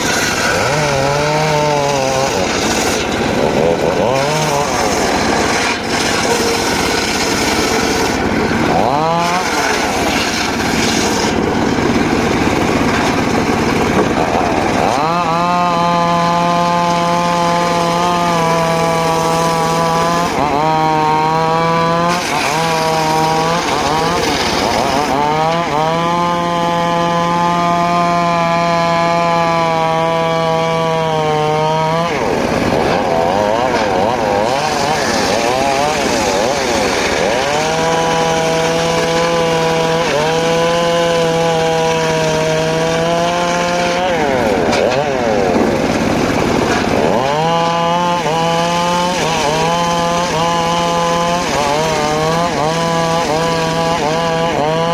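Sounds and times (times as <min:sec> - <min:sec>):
circular saw cutting wood: 0:00.0 - 0:54.9.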